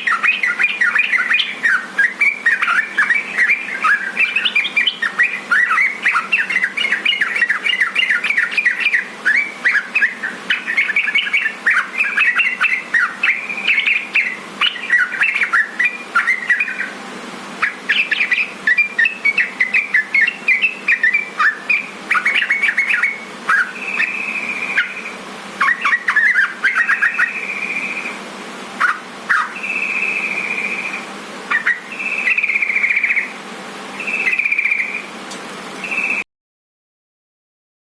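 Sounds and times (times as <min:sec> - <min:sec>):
bird chattering song: 0:00.0 - 0:17.0, 0:17.6 - 0:28.2, 0:28.8 - 0:35.1, 0:35.8 - 0:36.2
bird whistled notes: 0:00.0 - 0:17.0, 0:17.6 - 0:28.2, 0:28.8 - 0:33.3, 0:34.0 - 0:35.1, 0:35.8 - 0:36.2.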